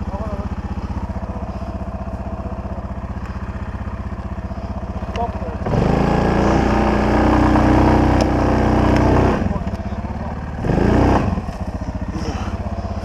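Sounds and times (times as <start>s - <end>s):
atv engine revving and idling: 0.0s - 13.0s.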